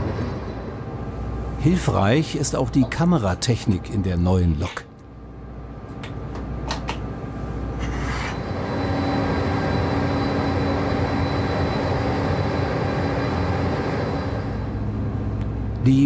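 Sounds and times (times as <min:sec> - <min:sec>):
locomotive hum with high whine: 0:00.0 - 0:16.0.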